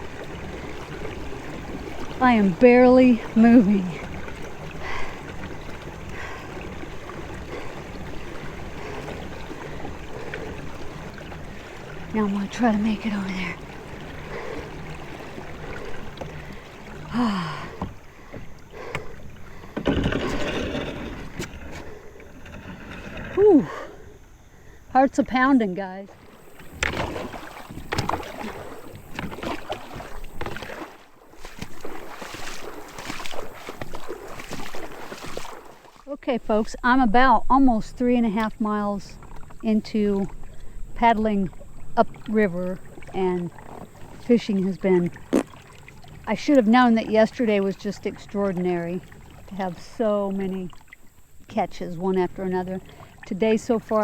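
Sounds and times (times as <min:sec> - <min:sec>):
river current gurgling around kayak: 0:00.0 - 0:54.0.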